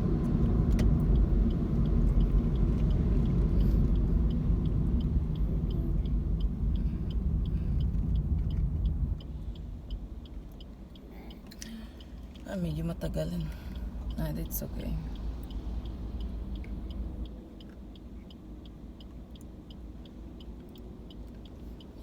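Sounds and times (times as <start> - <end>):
car road noise rumble: 0.0 - 22.0
turn signal ticking: 0.0 - 22.0.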